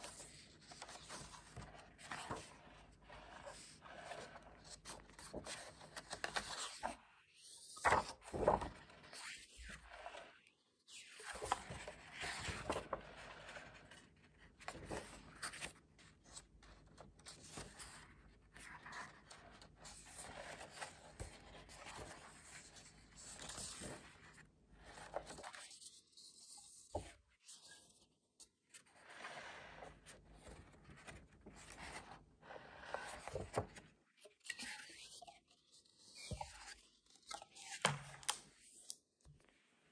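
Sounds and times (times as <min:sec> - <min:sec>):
book pages turning: 0:00.0 - 0:10.3, 0:11.0 - 0:28.0, 0:28.7 - 0:39.5.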